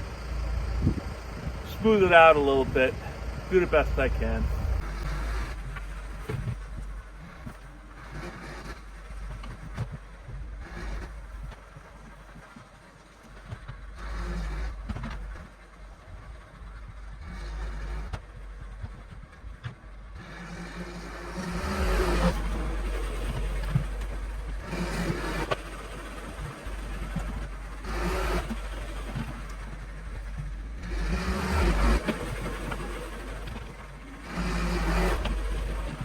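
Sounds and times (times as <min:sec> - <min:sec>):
backhoe engine running: 0:00.0 - 0:36.0.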